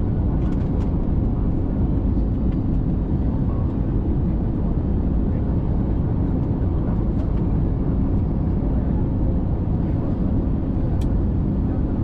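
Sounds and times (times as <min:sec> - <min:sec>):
airliner rumble: 0:00.0 - 0:12.0.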